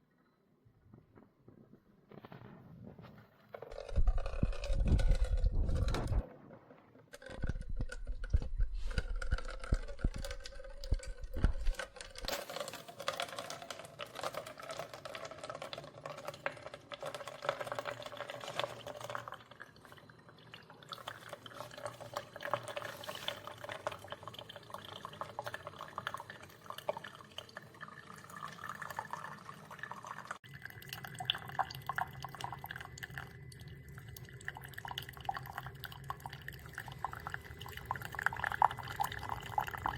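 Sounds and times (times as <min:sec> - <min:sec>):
coffee maker humming: 0:03.6 - 0:06.2, 0:07.2 - 0:39.9
coffee streaming into a cup: 0:03.6 - 0:06.2, 0:07.2 - 0:39.9.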